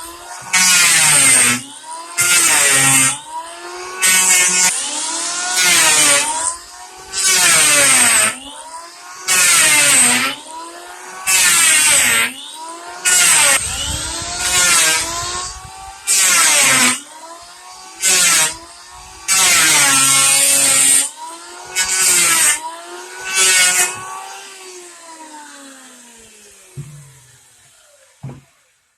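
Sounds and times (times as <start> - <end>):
planer motor whine: 0.0 - 28.8
wood planer cutting wood: 0.0 - 28.8.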